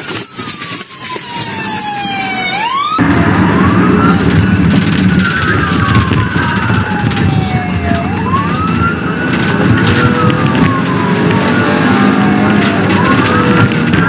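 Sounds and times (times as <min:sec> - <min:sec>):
car engine and road noise: 0:00.0 - 0:14.0
police siren wailing: 0:00.0 - 0:14.0.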